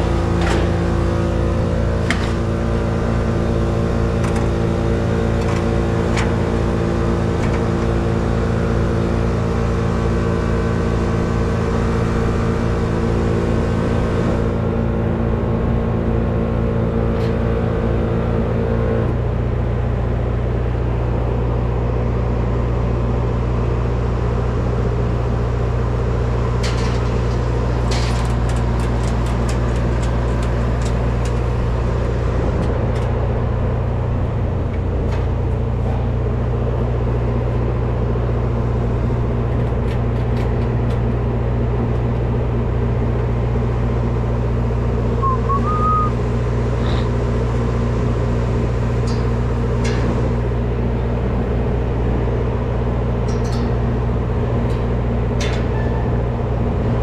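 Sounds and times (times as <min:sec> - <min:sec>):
truck engine and road drone: 0:00.0 - 0:57.0.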